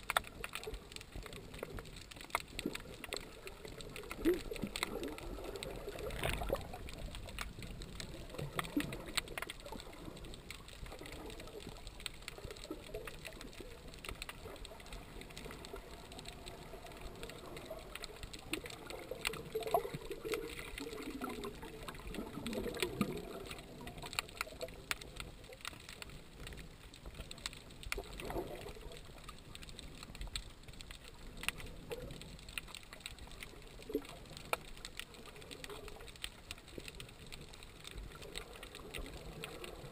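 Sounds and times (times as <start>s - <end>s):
muffled underwater water wash: 0.0s - 39.9s
sharp clicks and crackles: 0.0s - 39.9s.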